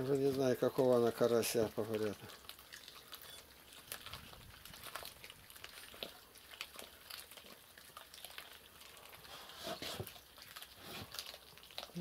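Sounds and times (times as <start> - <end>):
cats chewing with crunching clicks: 0.1 - 12.0.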